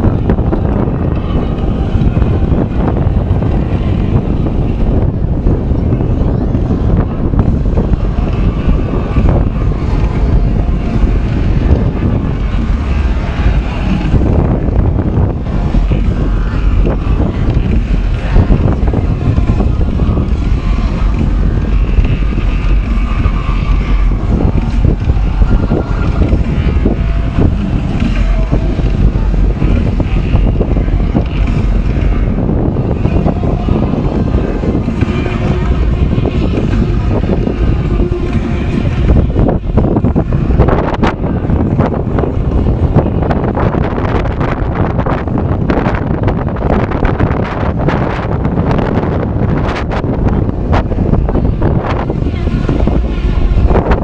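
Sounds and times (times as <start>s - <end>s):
faint harbour sounds: 0.0s - 54.0s
wind buffeting microphone: 0.0s - 54.0s.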